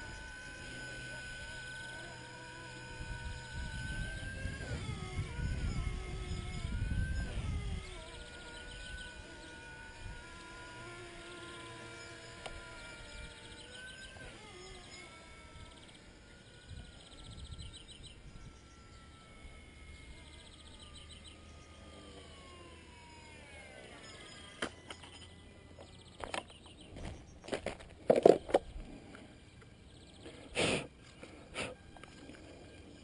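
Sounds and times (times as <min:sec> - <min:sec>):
rc helicopter motor whine: 0:00.0 - 0:33.0.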